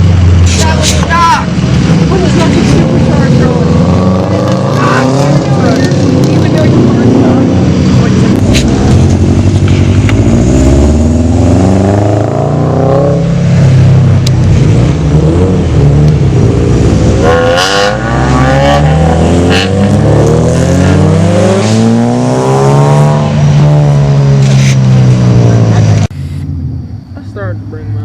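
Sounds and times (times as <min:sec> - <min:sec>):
loud engine exhaust revving: 0:00.0 - 0:26.9.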